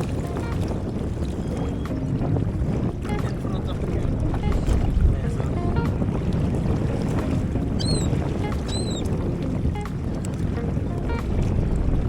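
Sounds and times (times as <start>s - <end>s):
water noise: 0.0s - 12.0s
wind buffeting microphone: 0.0s - 12.0s.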